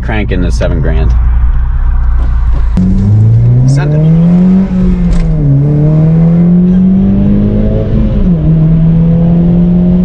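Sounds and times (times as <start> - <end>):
car engine at full throttle: 0.0 - 10.0.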